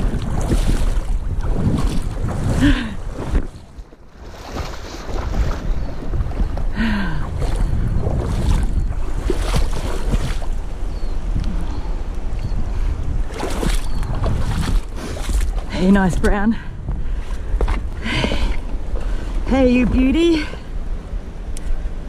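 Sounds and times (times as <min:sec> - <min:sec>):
water splashing and sloshing: 0:00.0 - 0:22.0
wind buffeting microphone: 0:00.0 - 0:22.0.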